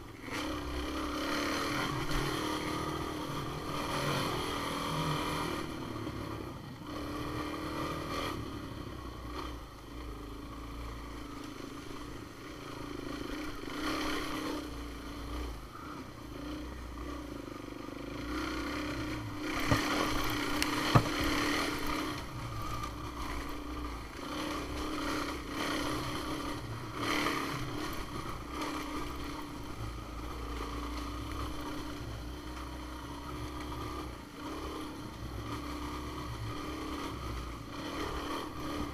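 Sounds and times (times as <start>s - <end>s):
off-road vehicle engine running: 0.0s - 38.9s.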